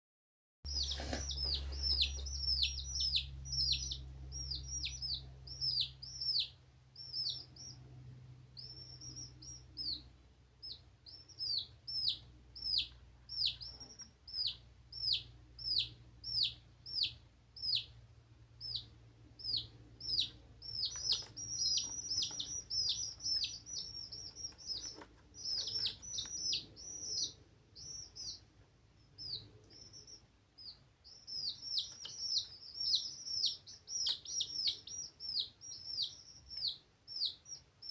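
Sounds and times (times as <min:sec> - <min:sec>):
chicks peeping: 0:00.7 - 0:37.9.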